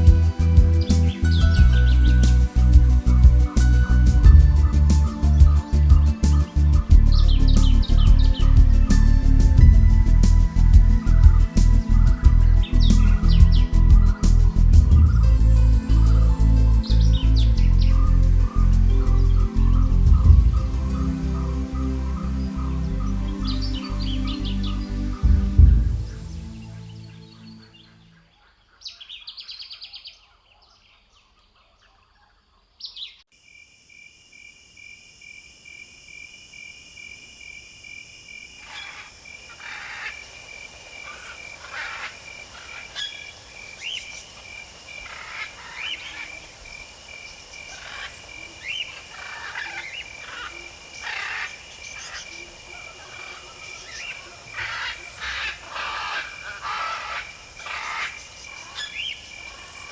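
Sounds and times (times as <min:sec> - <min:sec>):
insect chirring chorus: 0:00.0 - 0:29.6, 0:33.0 - 0:59.9.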